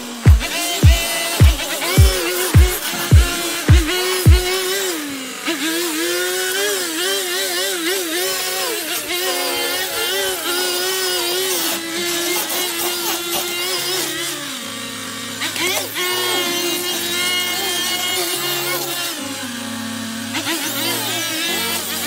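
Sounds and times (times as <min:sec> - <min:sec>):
string trimmer cutting grass: 0:00.0 - 0:22.0.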